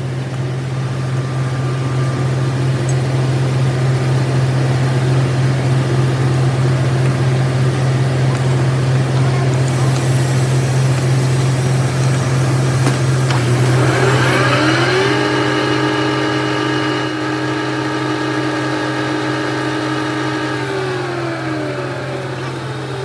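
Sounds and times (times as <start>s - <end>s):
constant low hum: 0.0s - 23.0s
machine motor whining: 0.0s - 23.0s.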